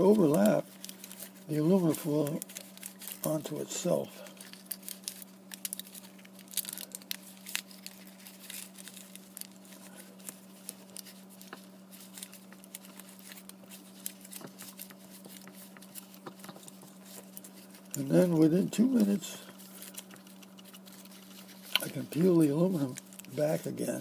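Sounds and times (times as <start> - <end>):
aluminum foil crinkling: 0.0 - 24.0
steady low hum: 0.0 - 24.0.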